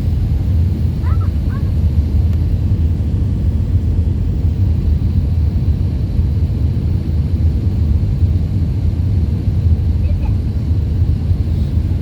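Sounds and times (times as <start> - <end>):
airliner landing rumble: 0.0 - 12.0.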